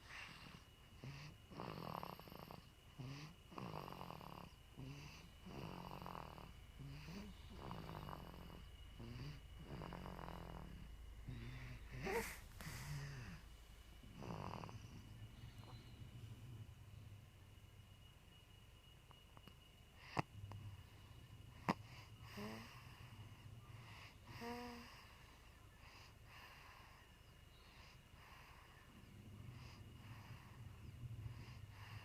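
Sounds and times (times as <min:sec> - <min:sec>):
baby snoring softly: 0:00.0 - 0:16.7, 0:19.1 - 0:32.0.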